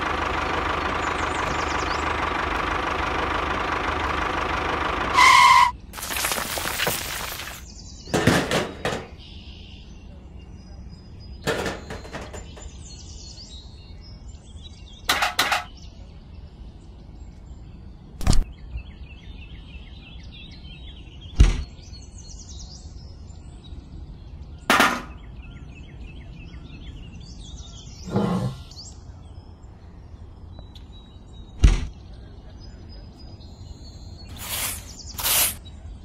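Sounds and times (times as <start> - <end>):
birds chirping: 0.1 - 3.0, 5.4 - 36.0.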